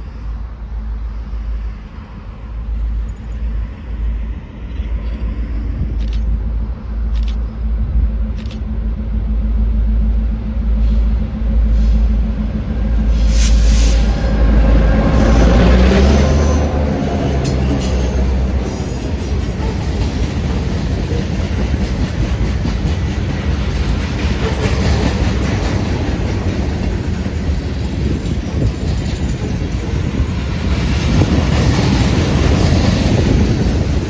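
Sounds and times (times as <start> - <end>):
train rumbling past on rails: 0.0 - 34.0.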